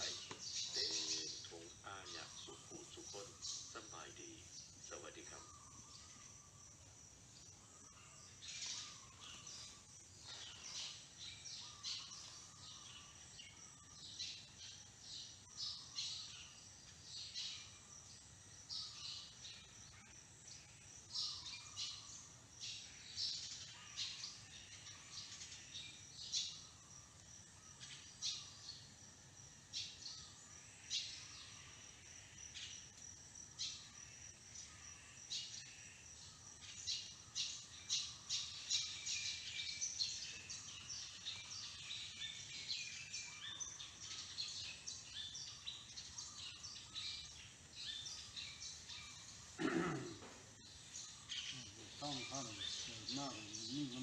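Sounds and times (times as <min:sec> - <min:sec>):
birds chirping: 0:00.0 - 0:54.0
faint steady background noise: 0:00.0 - 0:54.0.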